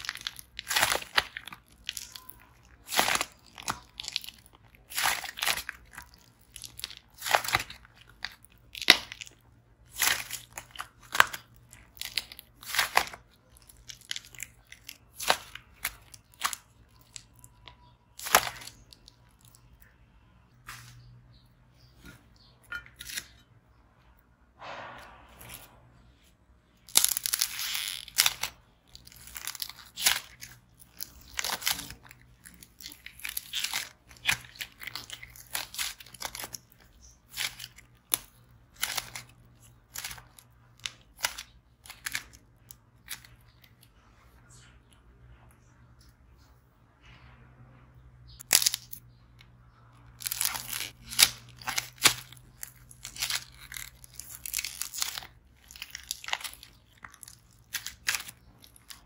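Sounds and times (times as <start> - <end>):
slime crackling and tearing: 0.0 - 23.3, 26.7 - 43.9, 48.3 - 59.0.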